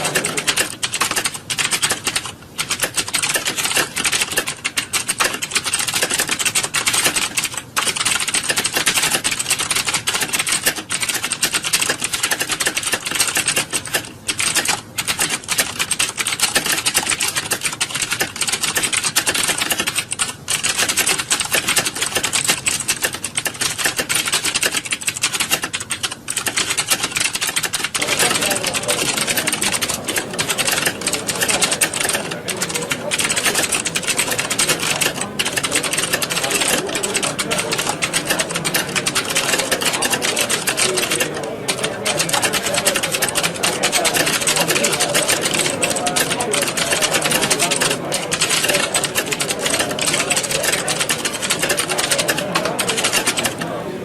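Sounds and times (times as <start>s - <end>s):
many keyboards typing: 0.0s - 54.0s.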